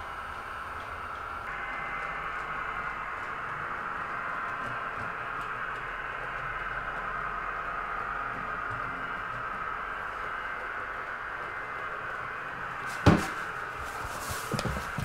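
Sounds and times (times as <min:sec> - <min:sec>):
model train motor whirring: 0:00.0 - 0:15.0
wheels ticking over rail joints: 0:00.0 - 0:15.0.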